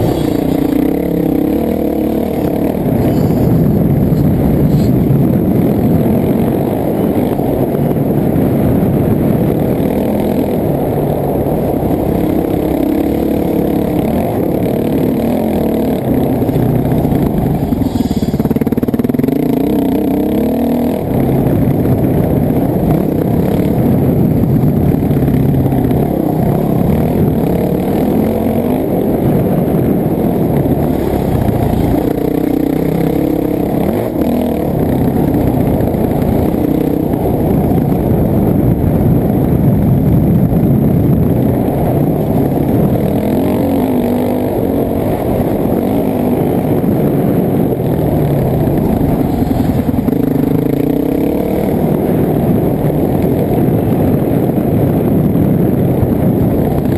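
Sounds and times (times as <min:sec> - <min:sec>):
dirt bike engine revving: 0:00.0 - 0:07.4, 0:09.8 - 0:40.4, 0:41.7 - 0:56.9.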